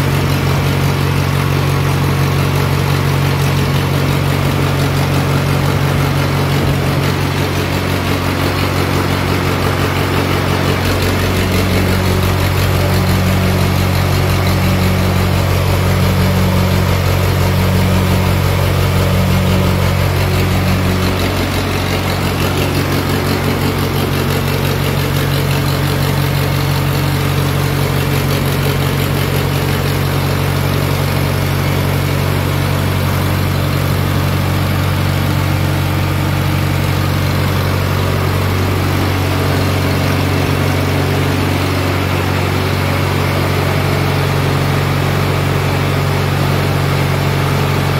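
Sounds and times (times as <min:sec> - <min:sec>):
diesel engine drone: 0:00.0 - 0:47.9.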